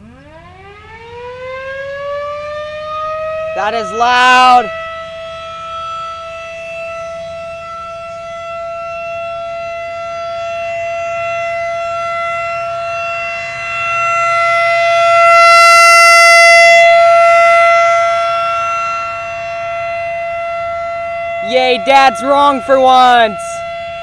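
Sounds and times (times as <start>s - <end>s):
rotating warning siren steady tone: 0.0s - 24.0s.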